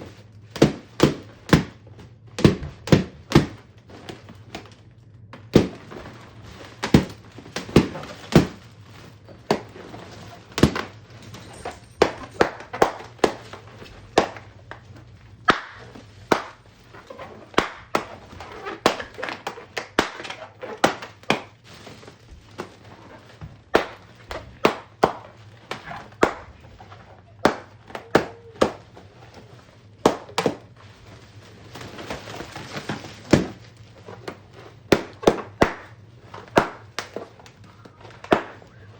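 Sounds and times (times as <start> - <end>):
balloons popping: 0.0 - 38.9
steady low hum: 0.0 - 38.9.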